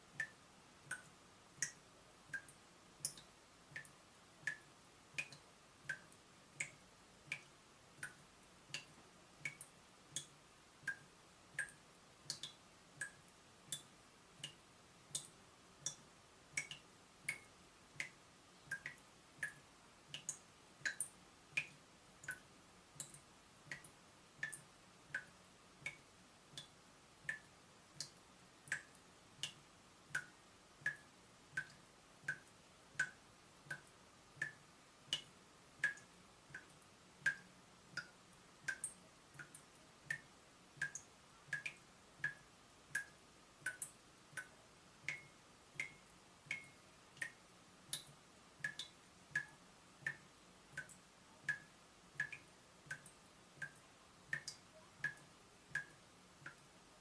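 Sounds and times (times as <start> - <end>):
water dripping from tap: 0.1 - 56.7.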